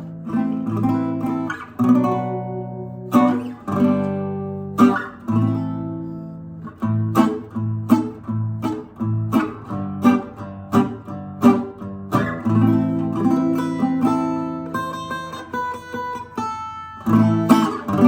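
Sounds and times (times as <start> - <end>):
acoustic guitar strummed: 0.0 - 18.0.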